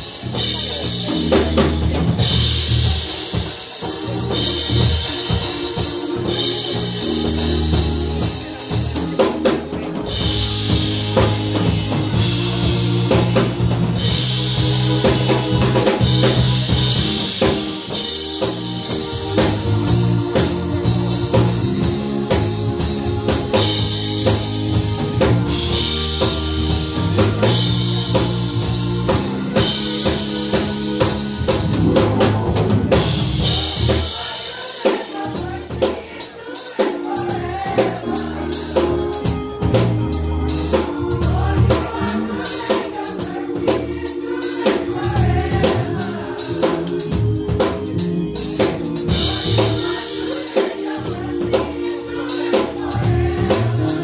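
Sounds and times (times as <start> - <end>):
bass line: 0.0 - 3.1, 4.0 - 34.2, 37.3 - 42.4, 44.9 - 50.0, 52.7 - 54.0
drum kit with cymbal crashes: 0.0 - 54.0
gospel band playing: 0.0 - 54.0
organ chords: 0.0 - 54.0.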